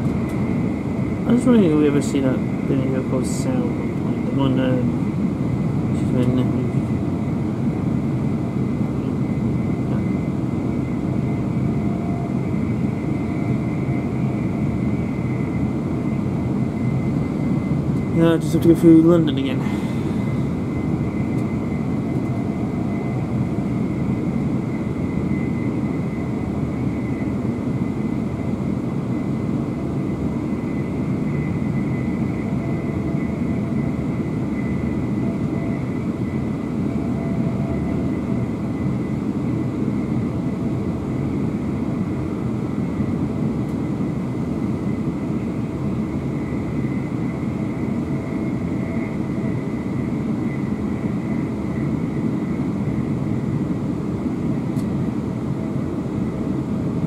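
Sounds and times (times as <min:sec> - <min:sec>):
faint high whine: 0:00.0 - 0:57.0.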